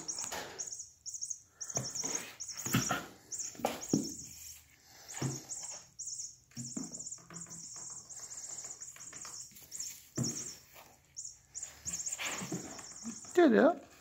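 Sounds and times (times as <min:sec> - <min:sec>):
high mouse-like squeaks: 0:00.0 - 0:13.4.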